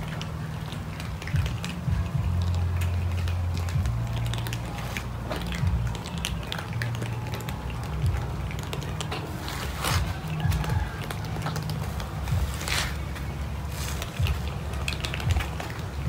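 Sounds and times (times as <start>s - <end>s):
cats crunching dry food: 0.0s - 16.0s
low rumble: 0.0s - 16.0s.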